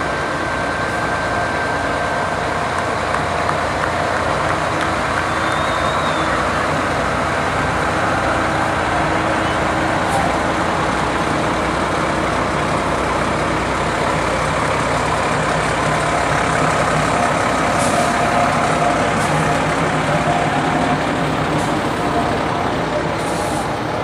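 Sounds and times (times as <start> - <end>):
diesel truck engine passing: 0.0 - 24.0.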